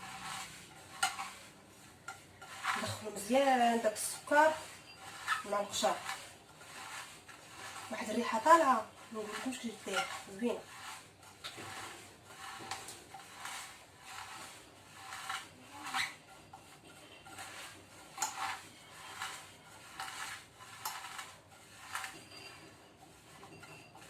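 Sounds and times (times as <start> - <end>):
sugar and zest scraping: 0.0 - 24.0.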